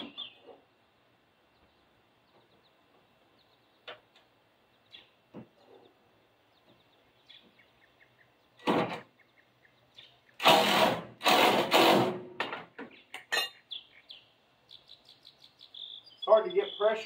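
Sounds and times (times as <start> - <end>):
birds chirping: 0.0 - 10.4, 12.6 - 17.0.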